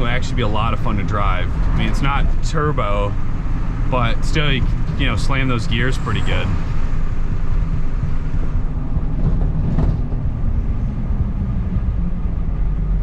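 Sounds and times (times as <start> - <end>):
diesel engine rumbling: 0.0 - 13.0
road and wind noise: 0.0 - 13.0.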